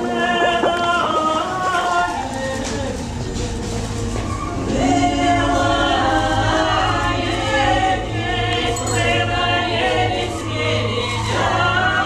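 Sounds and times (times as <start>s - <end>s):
choir singing held notes: 0.0s - 3.6s, 4.3s - 12.0s.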